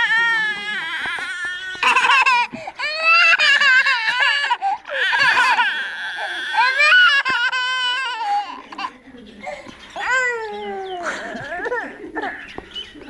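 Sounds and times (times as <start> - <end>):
toddlers crying: 0.0 - 12.1.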